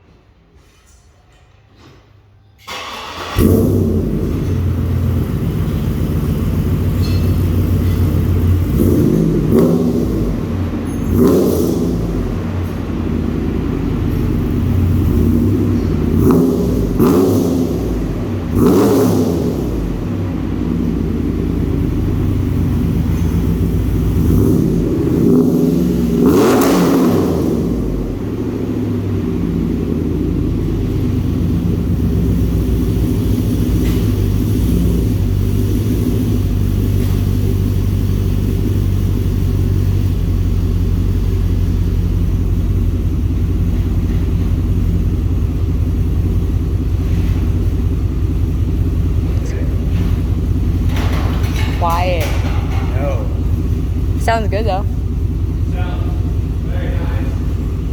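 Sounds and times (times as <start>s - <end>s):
car engine revving and idling: 2.7s - 57.9s.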